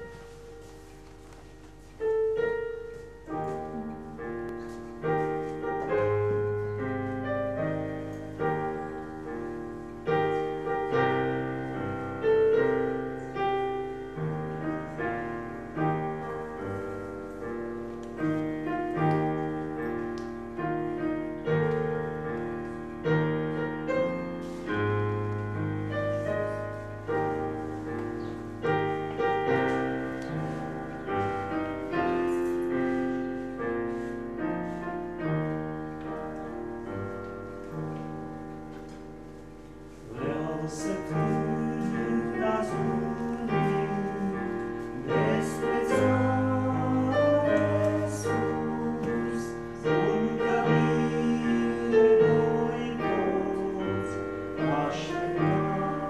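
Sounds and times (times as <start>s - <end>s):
digital piano chords: 0.0s - 56.0s.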